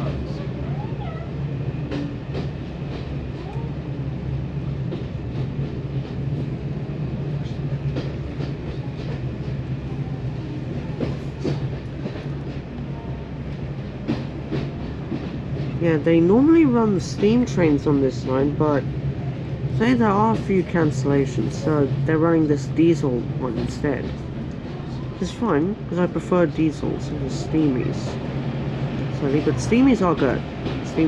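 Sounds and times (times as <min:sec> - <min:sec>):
diesel train low drone: 0:00.0 - 0:31.0.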